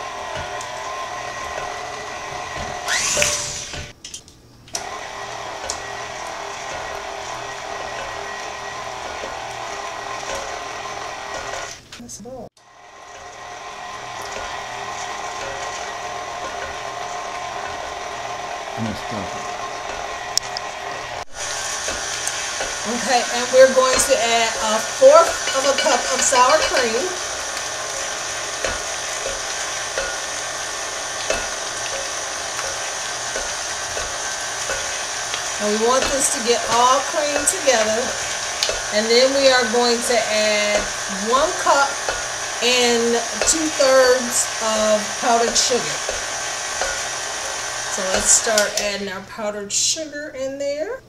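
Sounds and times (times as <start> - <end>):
stand mixer beating cream cheese: 0.0 - 3.9, 4.8 - 11.8, 12.6 - 49.0.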